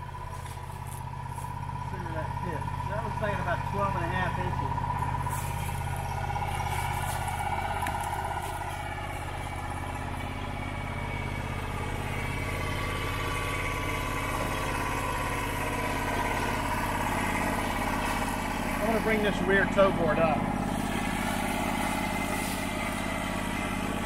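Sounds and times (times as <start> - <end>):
sawmill engine idling: 0.0 - 24.0.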